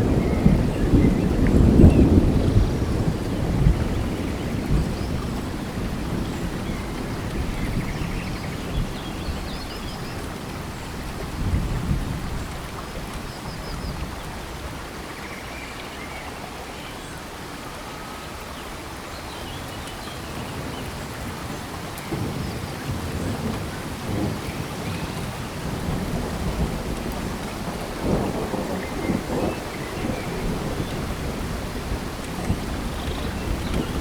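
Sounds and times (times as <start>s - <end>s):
rain falling on forest: 0.0s - 34.0s.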